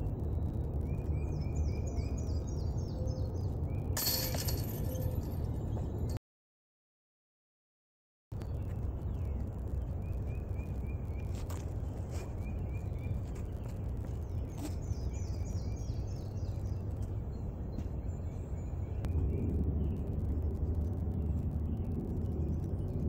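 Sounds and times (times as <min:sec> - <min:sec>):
low outdoor rumble: 0:00.0 - 0:06.2, 0:08.3 - 0:23.0
songbirds chirping: 0:00.0 - 0:06.2, 0:08.3 - 0:23.0.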